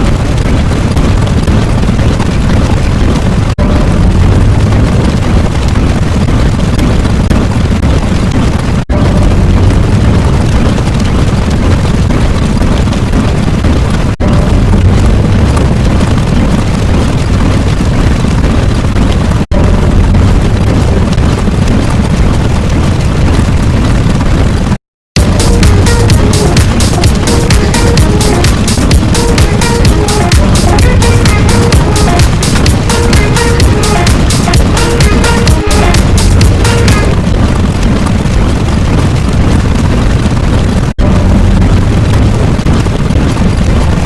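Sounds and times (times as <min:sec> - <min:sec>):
rumbling explosion: 0:00.0 - 0:44.0.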